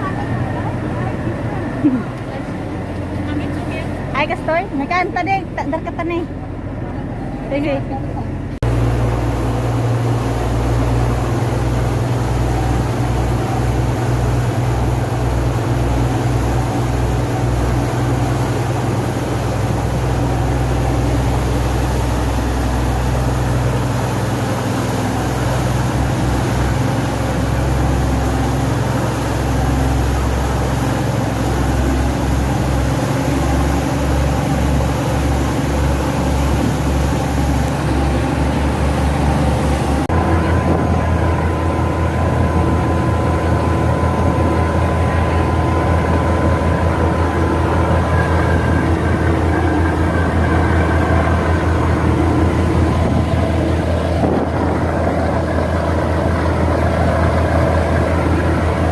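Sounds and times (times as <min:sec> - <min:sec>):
boat engine drone: 0:00.0 - 0:58.9.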